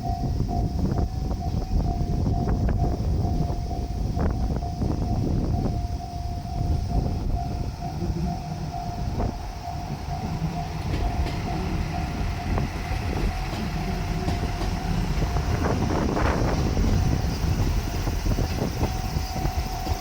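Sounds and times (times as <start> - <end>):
diesel train rumbling past: 0.0 - 20.0
level crossing warning bell: 0.0 - 20.0.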